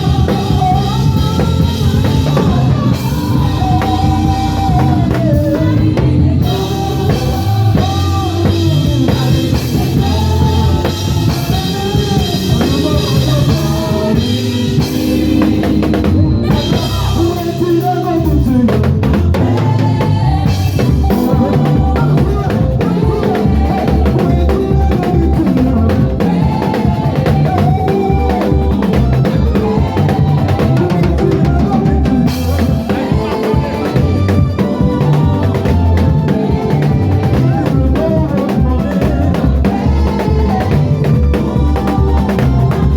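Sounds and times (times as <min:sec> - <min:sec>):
drum kit beat: 0:00.0 - 0:42.9
heavy bass line: 0:00.0 - 0:42.9
people singing: 0:00.0 - 0:42.9.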